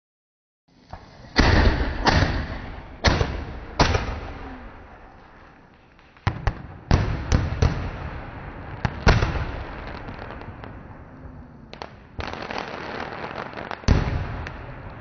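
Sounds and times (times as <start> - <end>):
firework crackling: 0.7 - 15.0
firework bangs: 0.9 - 15.0.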